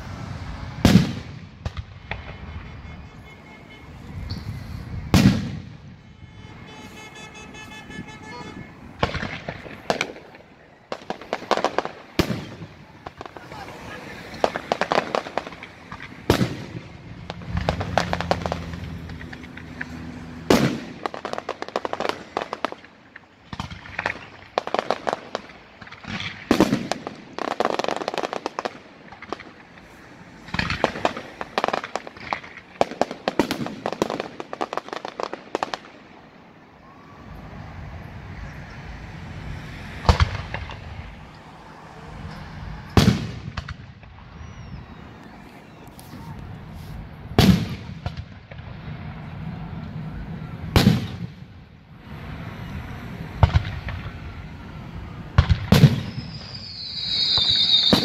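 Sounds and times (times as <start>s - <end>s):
loud firework bangs: 0.0s - 36.4s, 39.8s - 41.3s, 42.4s - 45.7s, 47.3s - 49.3s, 50.6s - 51.7s, 53.3s - 54.4s, 55.2s - 58.0s
fireworks bursting and crackling: 0.0s - 58.0s.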